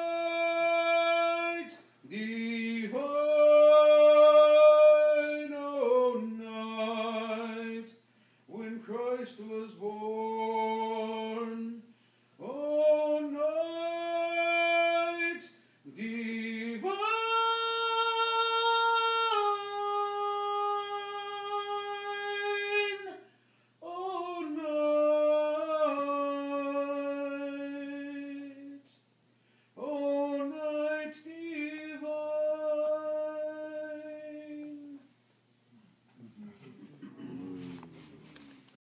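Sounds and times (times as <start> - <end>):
man singing unaccompanied: 0.0 - 29.0, 29.8 - 35.1.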